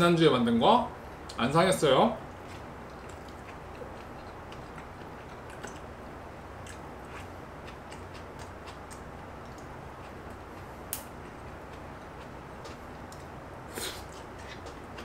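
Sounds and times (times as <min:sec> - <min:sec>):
steady background noise: 0:00.0 - 0:15.0
soft chewing: 0:02.2 - 0:05.9, 0:06.5 - 0:15.0.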